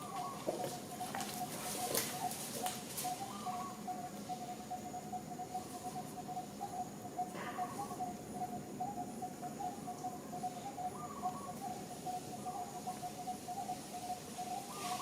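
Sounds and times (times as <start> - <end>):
fainter higher animal calls: 0.0 - 15.0.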